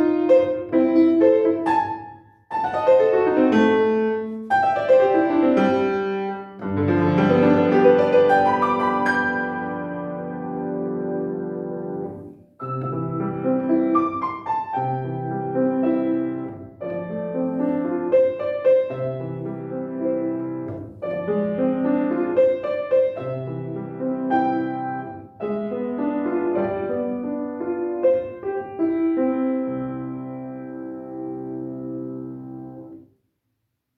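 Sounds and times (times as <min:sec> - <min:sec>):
piano piece: 0:00.0 - 0:33.1.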